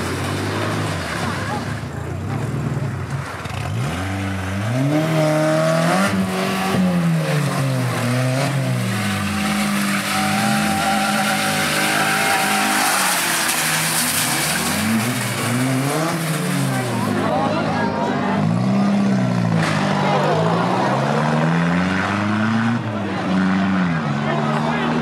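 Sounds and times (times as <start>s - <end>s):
racing car engines revving: 0.0s - 25.0s.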